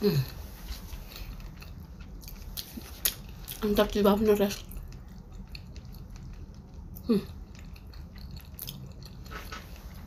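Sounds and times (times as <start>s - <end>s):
wet chewing sounds: 0.3s - 10.0s.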